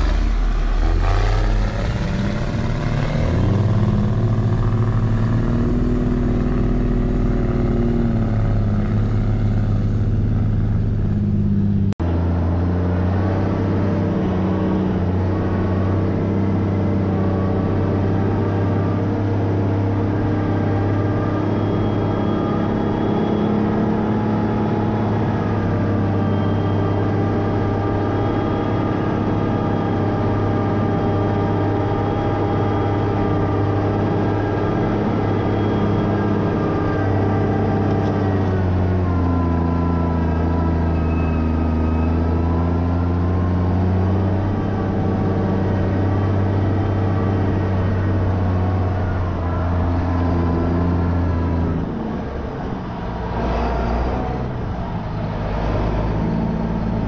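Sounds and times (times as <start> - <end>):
truck engine under load: 0.0 - 57.0.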